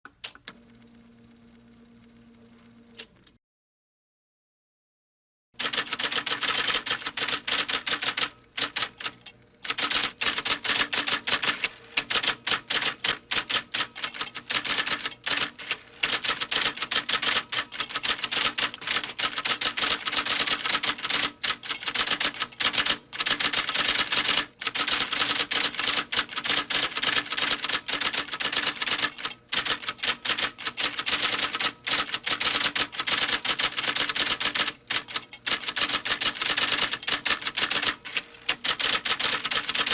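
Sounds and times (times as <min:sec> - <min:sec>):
electric typewriter typing: 0:05.6 - 0:39.9.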